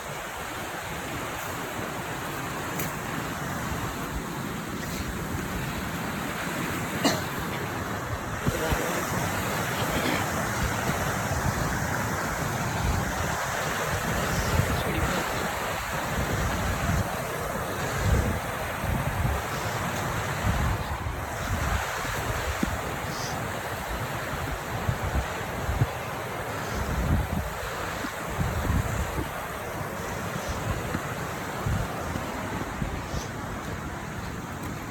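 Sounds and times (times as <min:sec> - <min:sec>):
river water rushing over rocks: 0:00.0 - 0:34.9
wind buffeting microphone: 0:00.0 - 0:34.9.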